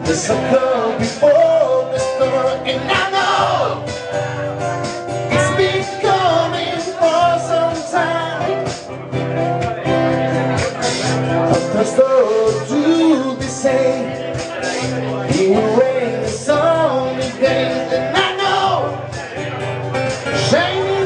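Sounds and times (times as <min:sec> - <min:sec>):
drum kit: 0:00.0 - 0:21.0
man singing: 0:00.0 - 0:21.0
strummed acoustic guitars: 0:00.0 - 0:21.0.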